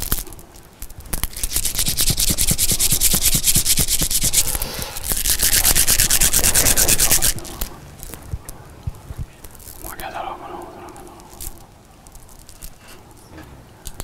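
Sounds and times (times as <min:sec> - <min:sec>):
prayer beads rubbed between palms: 0:00.0 - 0:13.3.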